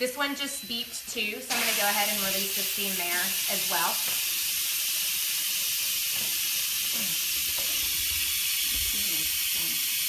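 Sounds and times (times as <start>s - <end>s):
pressure cooker steam hissing: 1.5s - 10.0s.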